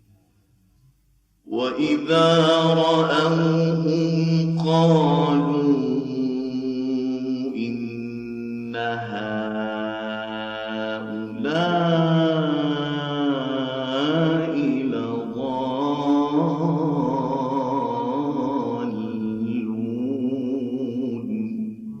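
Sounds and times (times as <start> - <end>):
person reciting melodically: 1.5 - 22.0.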